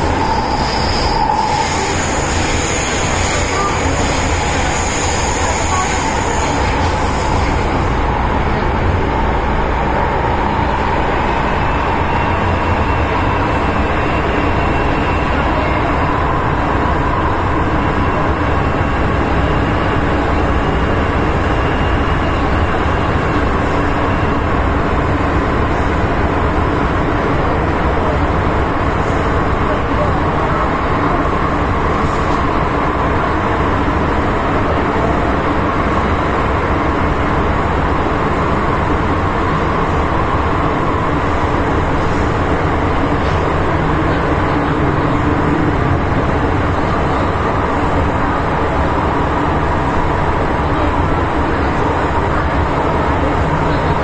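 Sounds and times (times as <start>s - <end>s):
metro train rumbling in tunnel: 0.0s - 54.0s.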